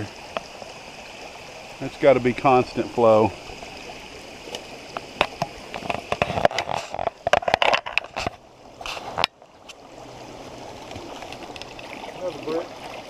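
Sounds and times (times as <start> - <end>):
stream flowing: 0.0 - 13.0.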